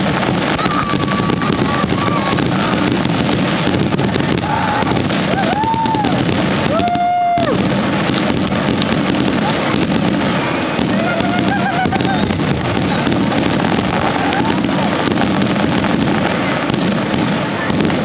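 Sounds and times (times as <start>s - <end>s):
spectators calling: 0.0s - 18.0s
wind buffeting microphone: 0.0s - 18.0s.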